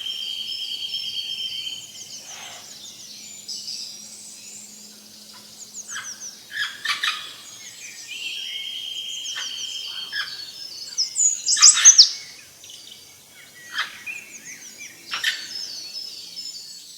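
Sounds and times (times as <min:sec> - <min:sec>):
birds chirping and whistling: 0:00.0 - 0:16.9.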